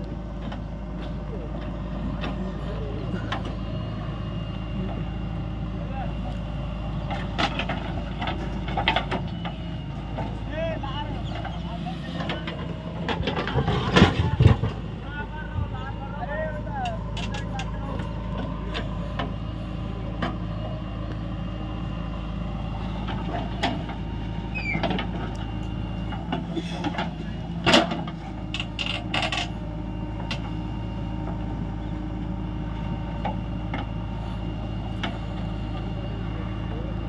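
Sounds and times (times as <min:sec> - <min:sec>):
diesel engines running: 0:00.0 - 0:37.0.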